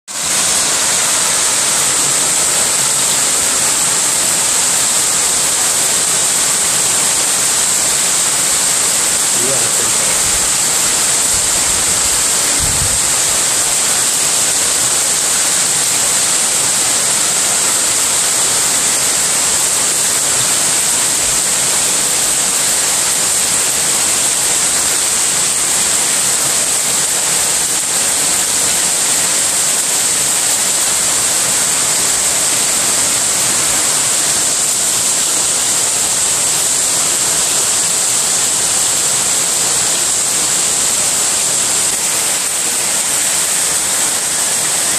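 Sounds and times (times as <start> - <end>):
heavy rain on tiles: 0.1 - 44.9.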